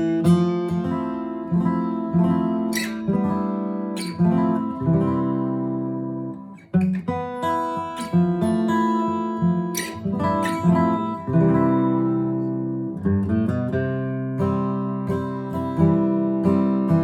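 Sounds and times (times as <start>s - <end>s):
acoustic guitar picked notes and chords: 0.0s - 17.0s.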